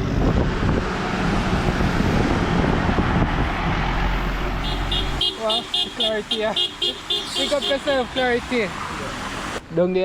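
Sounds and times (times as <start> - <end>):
vehicle engine hum: 0.0 - 9.8.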